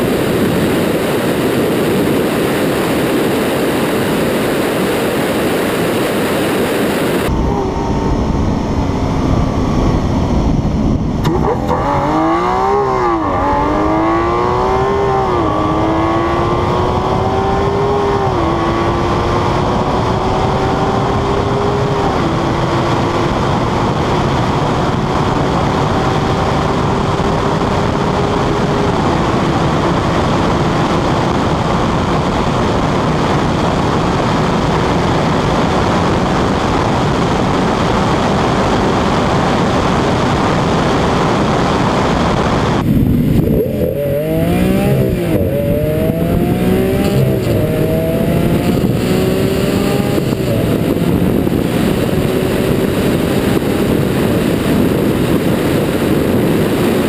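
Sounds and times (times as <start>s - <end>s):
car engine pulling at high speed: 0.0s - 57.0s
wind and road noise: 0.0s - 57.0s.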